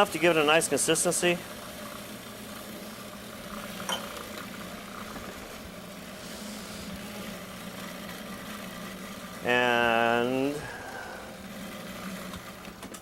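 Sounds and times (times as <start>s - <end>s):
food processor motor running: 0.0s - 13.0s.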